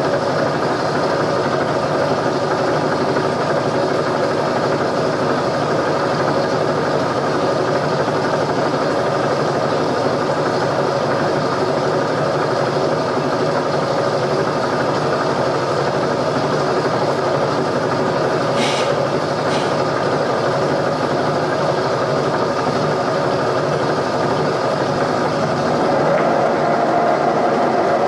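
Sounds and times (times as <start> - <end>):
milling machine humming: 0.0 - 28.0.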